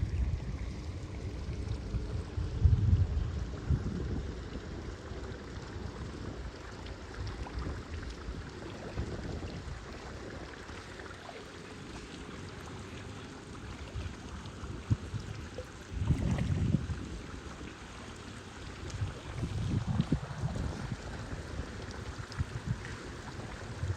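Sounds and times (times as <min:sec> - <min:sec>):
water and wind rushing: 0:00.0 - 0:23.9.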